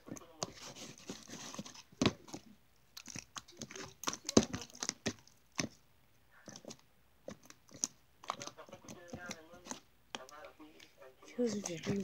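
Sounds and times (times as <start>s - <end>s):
slime squelching: 0.0s - 12.0s.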